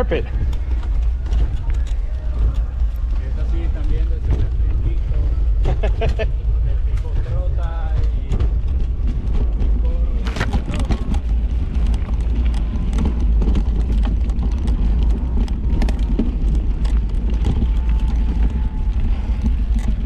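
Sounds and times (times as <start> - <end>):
bike clicks and rattles: 0.0 - 20.0
bike rumbling over rough trail: 0.0 - 20.0.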